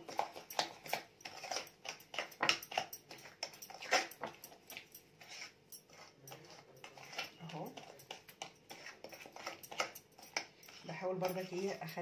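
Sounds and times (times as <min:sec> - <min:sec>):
utensil scraping and tapping glass bowl: 0:00.0 - 0:12.0.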